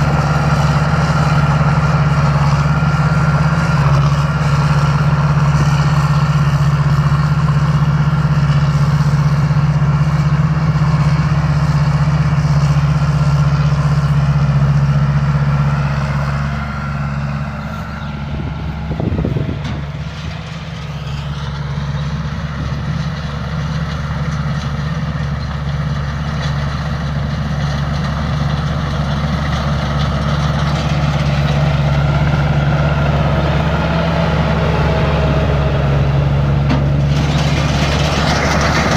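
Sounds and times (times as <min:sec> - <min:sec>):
combine harvester engine humming: 0:00.0 - 0:38.9.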